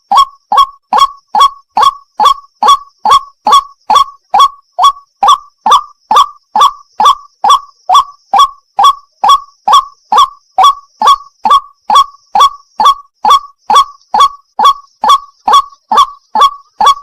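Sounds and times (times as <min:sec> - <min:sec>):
waterhen calling wak: 0:00.0 - 0:17.0.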